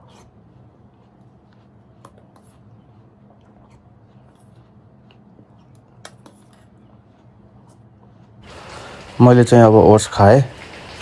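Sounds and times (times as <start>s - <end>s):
chewing oats: 0.0s - 9.2s
low steady hum: 0.0s - 11.0s.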